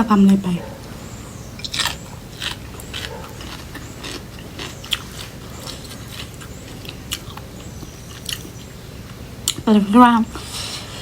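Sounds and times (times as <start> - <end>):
crunchy chewing: 0.2 - 9.7.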